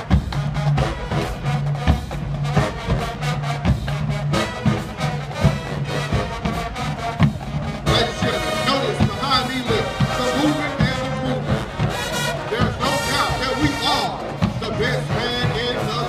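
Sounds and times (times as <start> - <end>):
low brass notes: 0.0 - 16.0
steady drum beat: 0.0 - 16.0.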